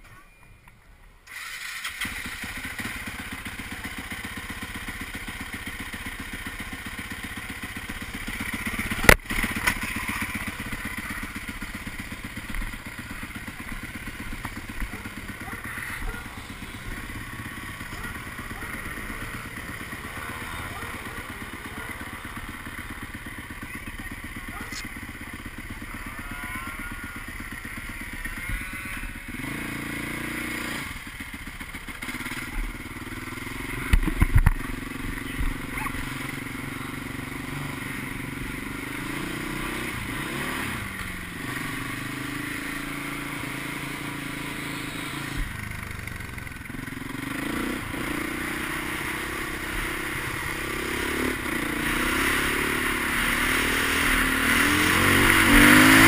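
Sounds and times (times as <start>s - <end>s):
motorcycle engine revving: 1.2s - 56.0s.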